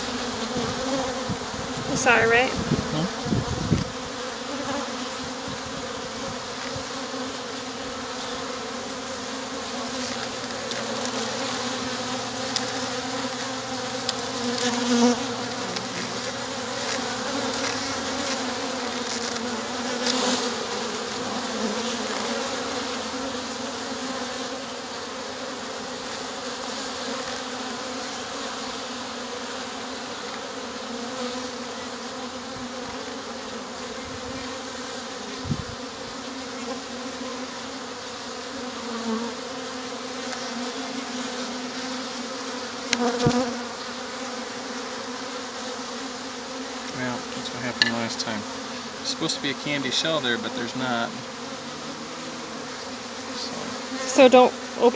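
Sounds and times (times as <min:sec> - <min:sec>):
honeybees buzzing: 0:00.0 - 0:54.9.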